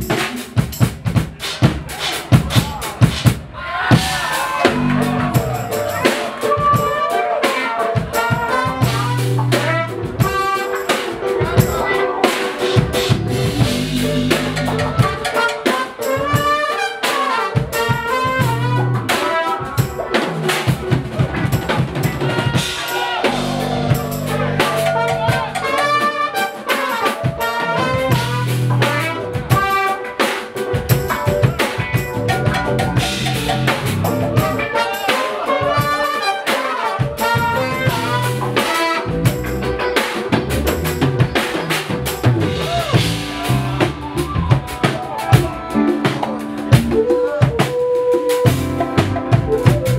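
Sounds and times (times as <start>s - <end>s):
drum kit hits: 0.0s - 47.8s, 48.4s - 49.9s
jazz fusion band playing: 0.0s - 49.9s.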